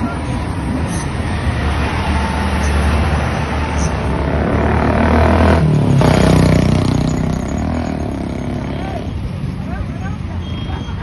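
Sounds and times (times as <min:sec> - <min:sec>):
vehicle engine and tyre rumble: 0:00.0 - 0:10.6
rushing road noise: 0:00.0 - 0:11.0.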